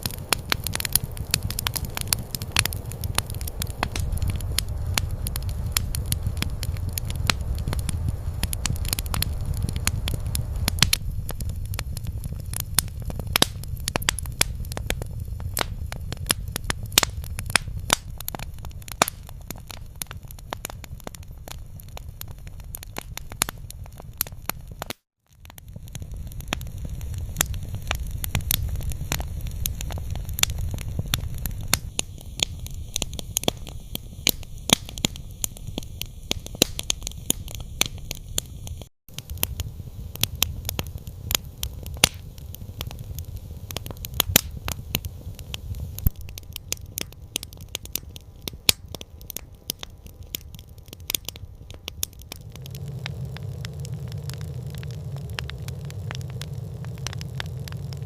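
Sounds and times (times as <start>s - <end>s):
campfire crackling and popping: 0.0s - 58.0s
low rumble of fire: 0.0s - 58.0s.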